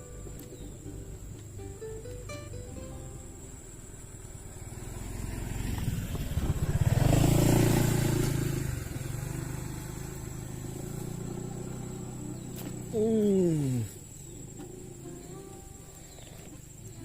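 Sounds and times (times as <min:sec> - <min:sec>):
vehicle engine passing by: 0:00.0 - 0:17.0.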